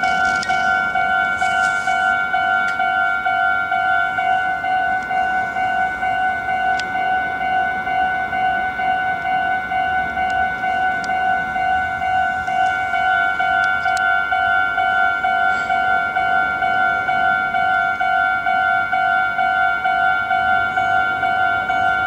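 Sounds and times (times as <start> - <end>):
electronic crossing warning bell: 0.0 - 22.0.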